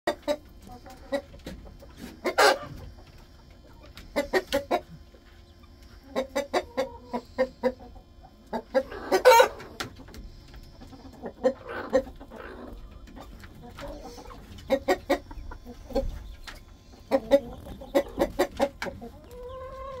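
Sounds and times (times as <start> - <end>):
chicken calls: 0.1 - 20.0
chickens clucking: 0.1 - 20.0.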